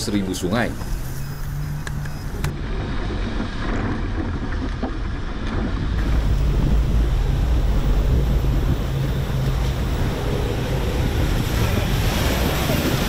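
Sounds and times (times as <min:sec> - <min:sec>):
low engine sound: 0:00.0 - 0:13.0
water rushing and splashing: 0:00.0 - 0:13.0
wind on microphone: 0:00.0 - 0:13.0.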